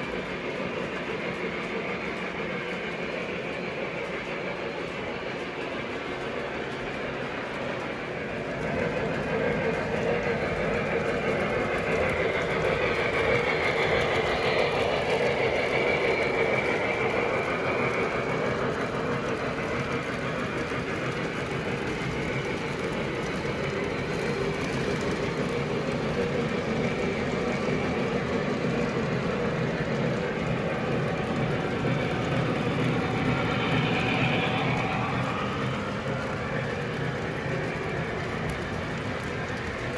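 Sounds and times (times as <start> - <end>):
toy train motor hum: 0.0 - 39.9
wheels rolling on rails: 0.0 - 39.9.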